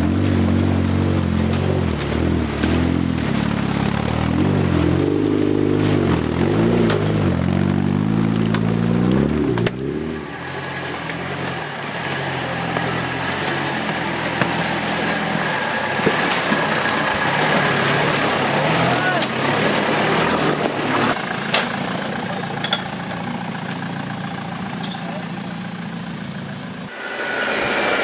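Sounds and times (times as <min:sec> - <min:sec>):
engine running at low speed: 0:00.0 - 0:28.0
off-road engine revving: 0:00.0 - 0:28.0.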